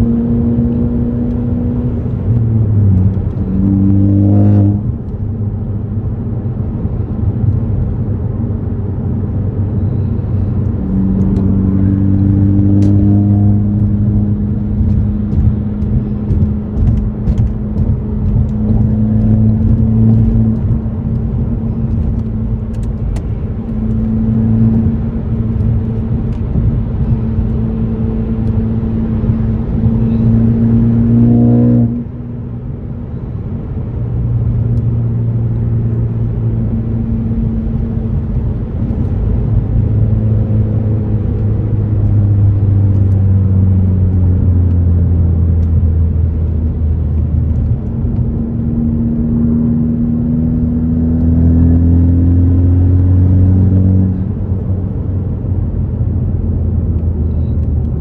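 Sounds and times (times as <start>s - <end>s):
car engine and exhaust driving: 0.0s - 58.0s.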